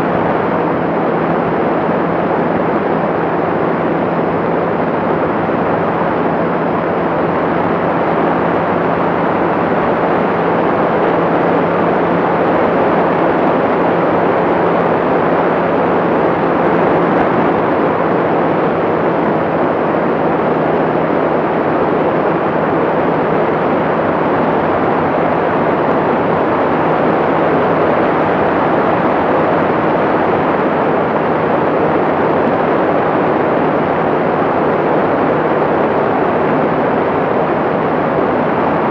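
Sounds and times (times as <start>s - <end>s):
aircraft engine and propeller drone: 0.0s - 38.9s
low steady hum: 0.0s - 38.9s
wind rushing over microphone: 0.0s - 38.9s.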